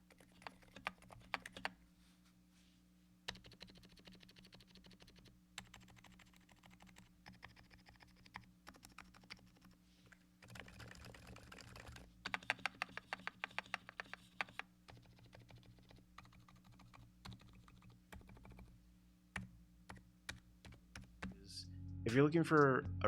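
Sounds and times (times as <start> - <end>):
mechanical keyboard typing: 0.0 - 1.8, 3.3 - 9.8, 10.4 - 18.7, 19.4 - 21.4.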